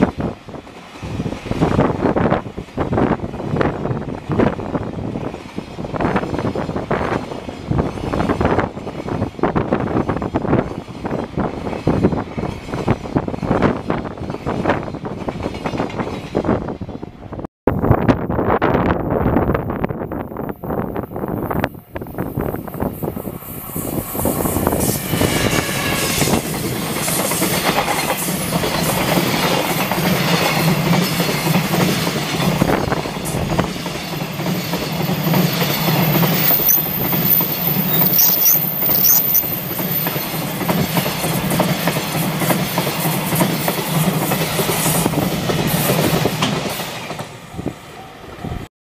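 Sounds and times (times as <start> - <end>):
freight train rumbling on rails: 0.0 - 48.7.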